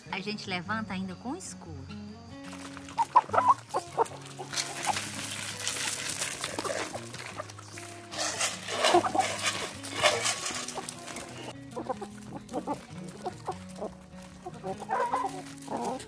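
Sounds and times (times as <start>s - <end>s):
background music: 0.0s - 16.0s
chickens clucking: 2.4s - 16.0s
pecking and scratching on gravel: 2.4s - 16.0s.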